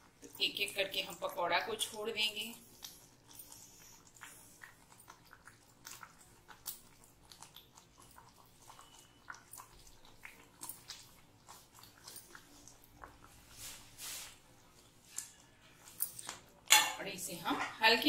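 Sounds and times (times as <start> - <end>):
thick sauce bubbling in pan: 0.0 - 16.8.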